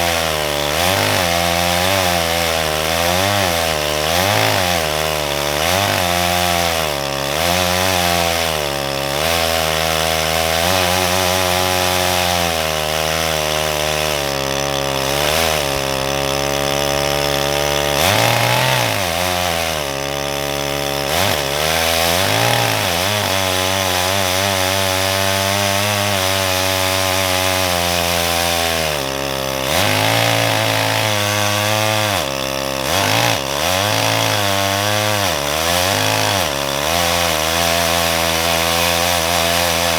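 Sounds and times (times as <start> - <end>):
chainsaw at full throttle cutting: 0.0 - 39.9.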